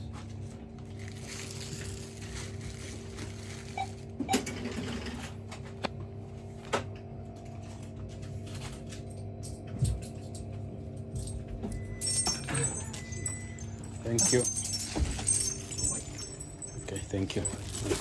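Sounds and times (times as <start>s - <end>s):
steady shop hum: 0.0s - 18.0s.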